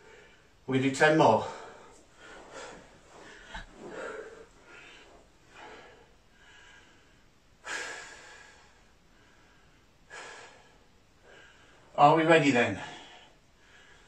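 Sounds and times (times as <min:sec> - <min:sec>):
man breathing hard: 0:01.4 - 0:12.0, 0:12.8 - 0:14.0.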